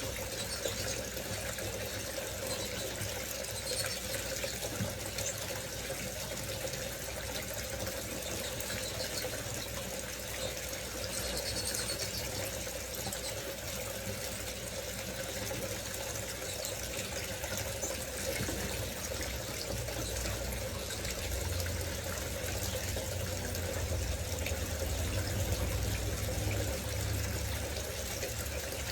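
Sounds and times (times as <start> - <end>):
fountain water splashing: 0.0 - 28.9.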